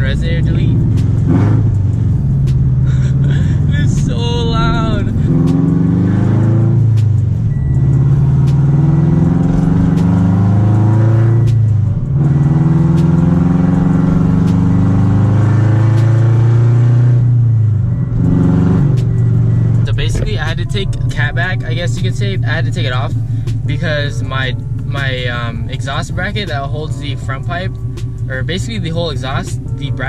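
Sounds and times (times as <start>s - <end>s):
loud car engine accelerating: 0.0s - 30.0s.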